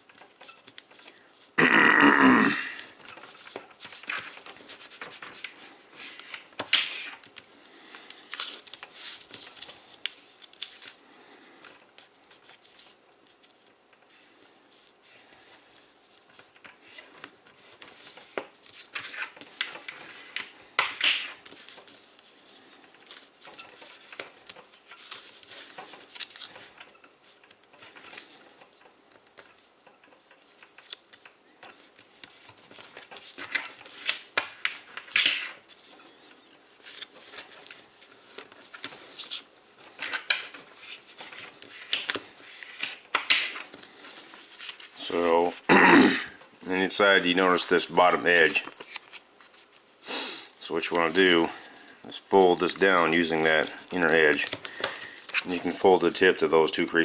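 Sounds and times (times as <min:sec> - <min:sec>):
paper crinkling: 0:02.8 - 0:45.6, 0:47.0 - 0:57.0.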